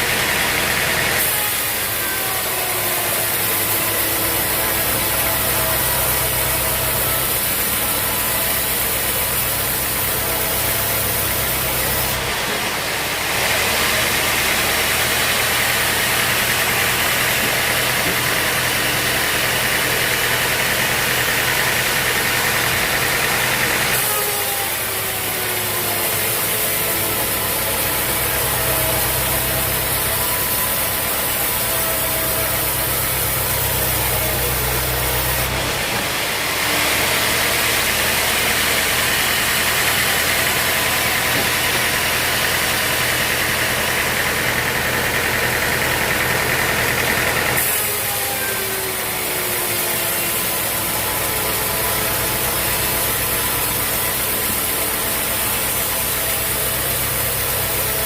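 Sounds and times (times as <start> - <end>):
saw cutting log: 0.0 - 58.0
sawmill engine running: 0.0 - 58.0.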